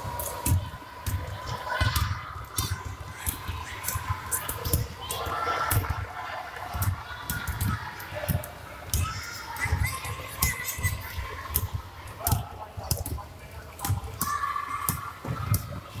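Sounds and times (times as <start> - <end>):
distant children's voices: 0.0 - 13.0, 13.6 - 16.0
basketballs bouncing on wooden floor: 0.3 - 6.0, 6.7 - 16.0.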